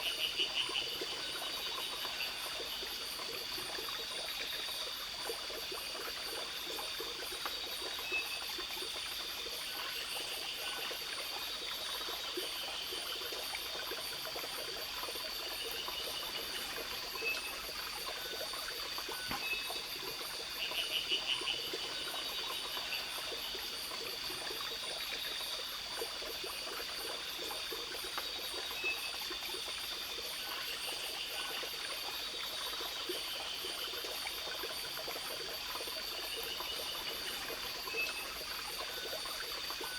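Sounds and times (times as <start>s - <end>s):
running stream: 0.0s - 39.9s.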